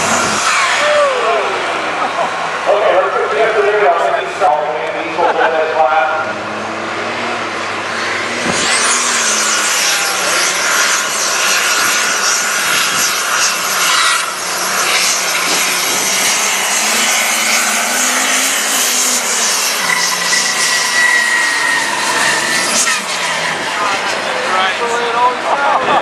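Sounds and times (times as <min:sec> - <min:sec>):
diesel engine at full throttle: 0:00.0 - 0:26.0
high turbo whine: 0:00.0 - 0:26.0.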